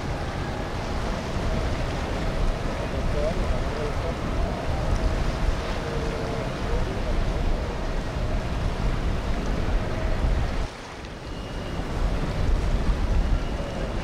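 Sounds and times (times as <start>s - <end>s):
boat engine rumble: 0.0s - 14.0s
water wash: 0.0s - 14.0s
wind buffeting microphone: 0.0s - 14.0s.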